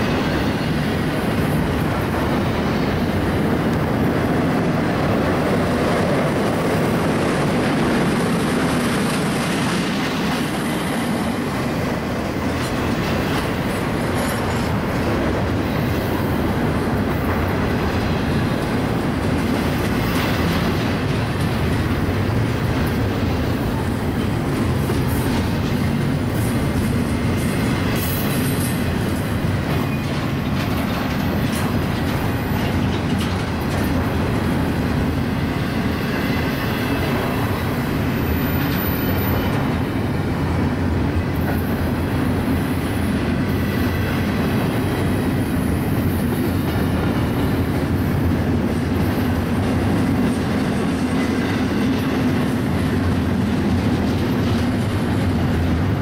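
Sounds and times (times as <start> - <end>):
freight train wheels on rails: 0.0 - 56.0.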